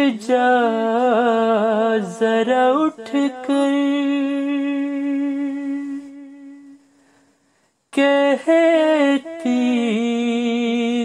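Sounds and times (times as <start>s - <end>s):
man singing a lament: 0.0s - 6.8s, 7.9s - 11.0s.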